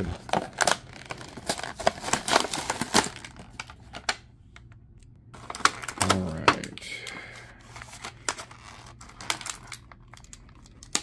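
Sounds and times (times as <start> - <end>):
plastic packaging crinkling and cracking: 0.0 - 11.0.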